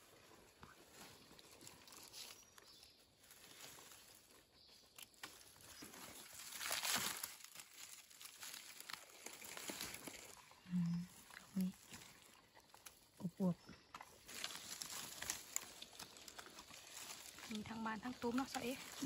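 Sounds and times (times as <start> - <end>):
dry leaves rustling and crackling: 0.0 - 13.4, 14.0 - 19.0.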